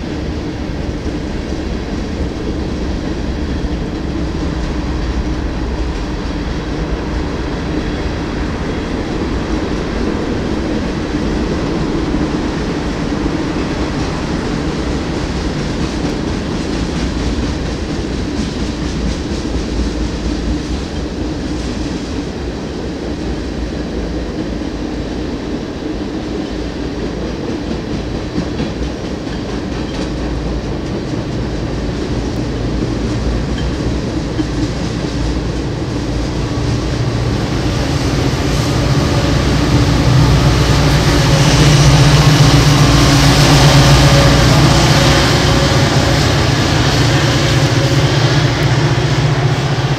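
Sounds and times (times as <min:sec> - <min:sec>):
diesel locomotive engines: 0:00.0 - 0:49.9
train wheels rumbling: 0:00.0 - 0:49.9.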